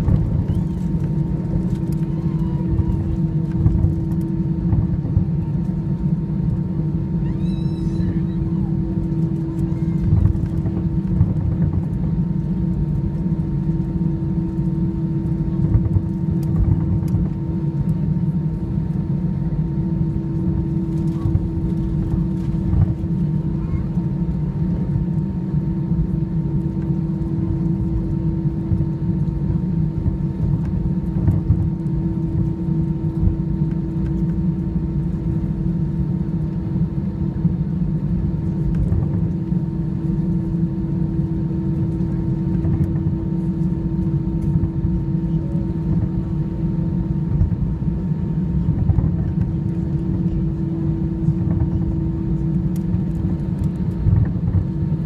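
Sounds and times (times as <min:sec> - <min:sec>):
jet engines idling hum: 0:00.0 - 0:55.0
low cabin rumble: 0:00.0 - 0:55.0.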